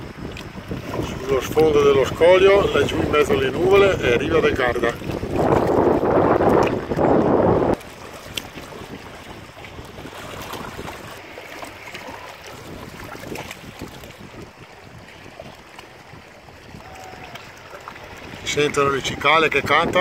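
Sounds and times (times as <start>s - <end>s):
waves lapping against rocks: 0.0s - 20.0s
wind rumble on microphone: 0.0s - 20.0s.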